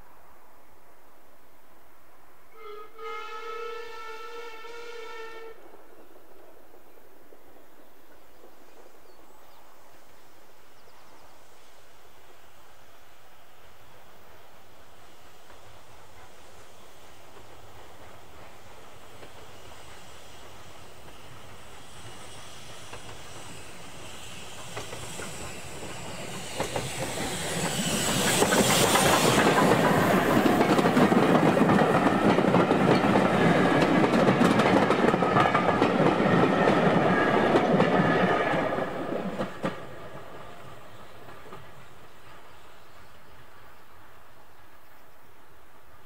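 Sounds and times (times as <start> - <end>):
steam train passing: 0.0 - 46.0
wheels rushing on rail: 2.2 - 46.0.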